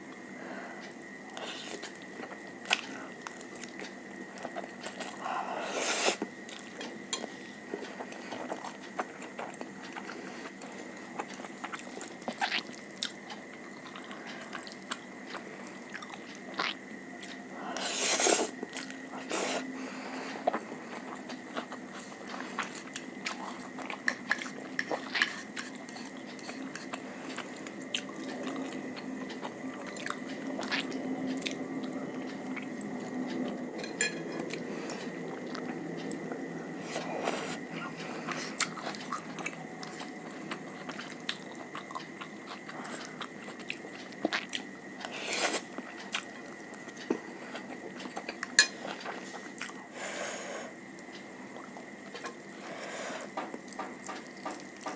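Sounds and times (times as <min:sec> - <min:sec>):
person chewing food: 0:00.1 - 0:50.0, 0:50.6 - 0:54.9.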